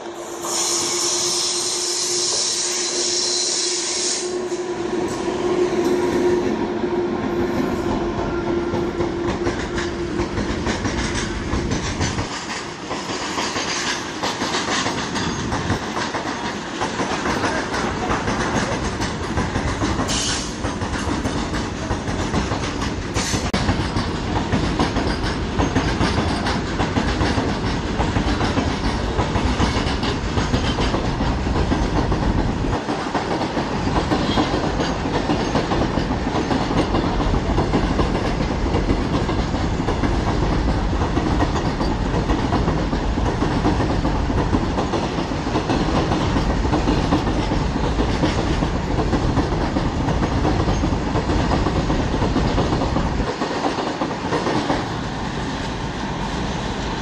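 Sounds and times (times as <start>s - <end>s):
train wheels clattering over rail joints: 8.7s - 55.2s.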